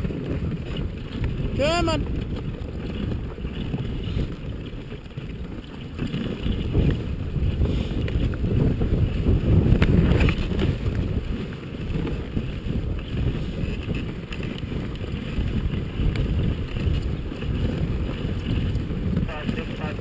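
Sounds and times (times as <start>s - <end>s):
sled knocking: 0.0s - 20.0s
sled runners rumbling over snow: 0.0s - 20.0s
wind on microphone: 0.0s - 20.0s.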